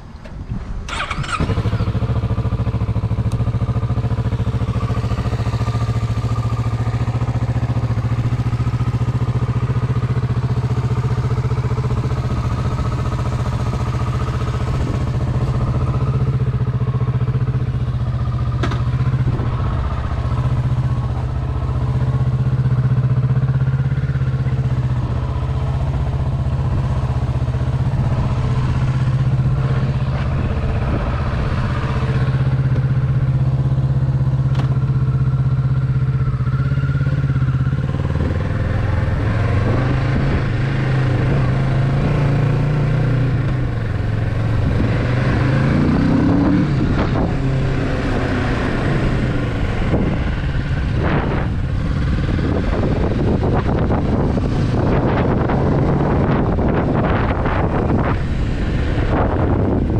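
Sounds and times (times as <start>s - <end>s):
motorcycle engine starting and idling: 0.0s - 59.9s.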